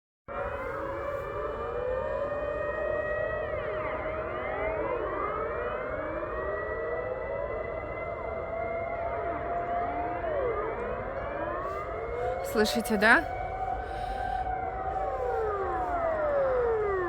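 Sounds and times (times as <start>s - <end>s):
siren steady tone: 0.3s - 17.0s
sirens rising and falling: 0.4s - 17.0s.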